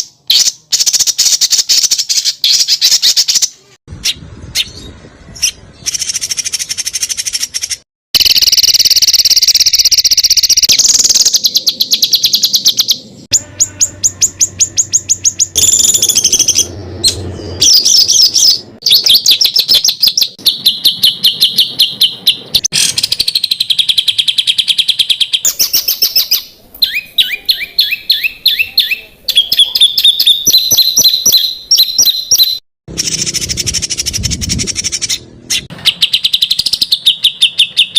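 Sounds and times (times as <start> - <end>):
songbird chattering calls: 4.1 - 37.9.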